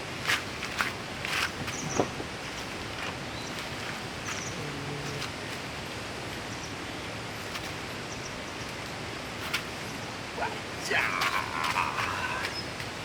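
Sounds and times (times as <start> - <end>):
outdoor ambient noise: 0.0 - 13.0.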